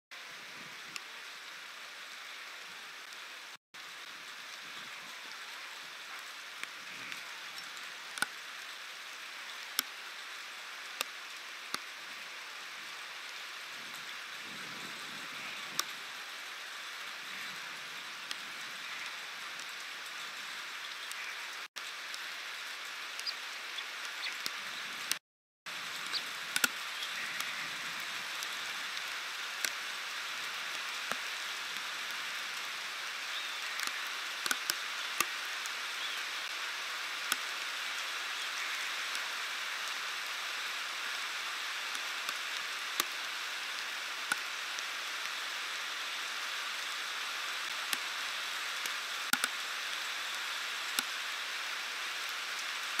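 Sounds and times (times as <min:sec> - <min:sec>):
heavy rain pouring: 0:00.2 - 0:53.0
raindrops ticking on camera: 0:03.8 - 0:53.0.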